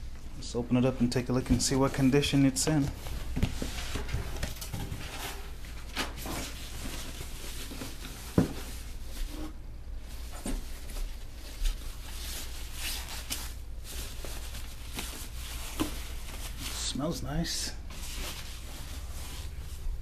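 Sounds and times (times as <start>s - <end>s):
packing wrap rustling and scraping: 1.5s - 20.0s.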